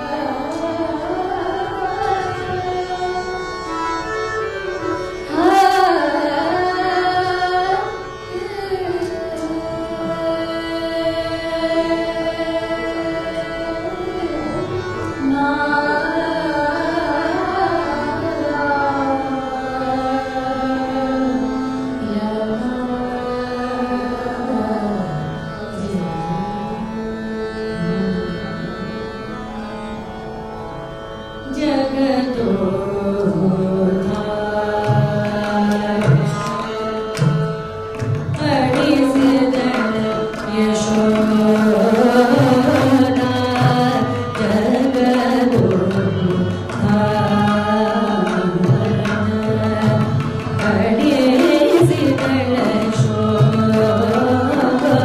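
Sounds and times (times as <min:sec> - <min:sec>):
tanpura drone: 0:00.0 - 0:55.0.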